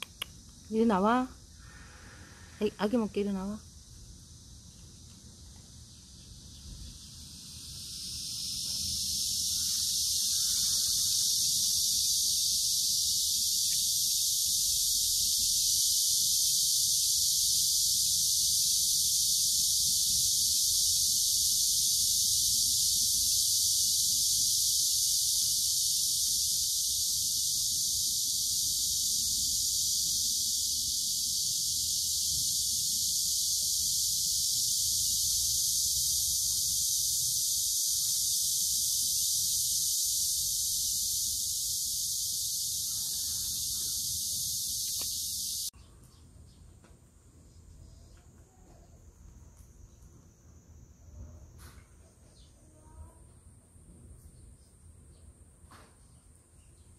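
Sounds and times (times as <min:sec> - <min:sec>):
insects buzzing: 0:00.0 - 0:56.9.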